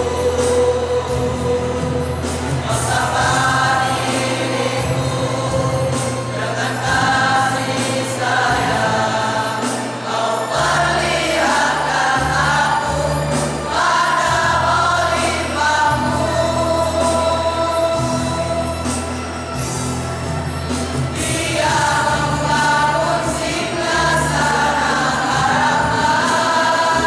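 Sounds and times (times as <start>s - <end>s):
men's choir singing a march: 0.0s - 27.0s.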